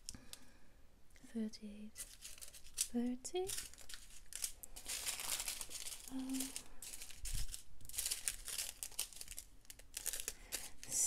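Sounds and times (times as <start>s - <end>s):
plastic bags crinkling: 1.9s - 11.0s.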